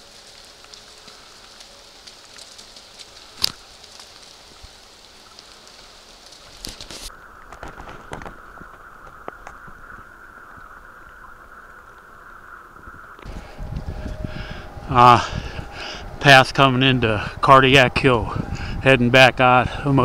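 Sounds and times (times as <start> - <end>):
wet snow pattering on leaves: 0.0 - 17.2.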